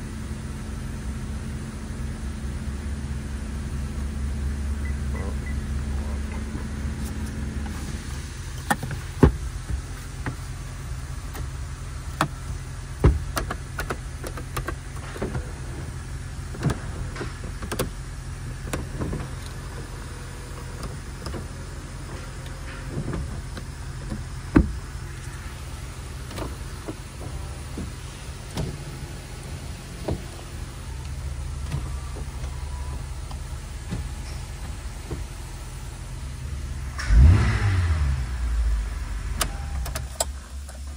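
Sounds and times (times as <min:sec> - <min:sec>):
steady low hum: 0:00.0 - 0:40.9
power-window motor running: 0:04.8 - 0:40.9.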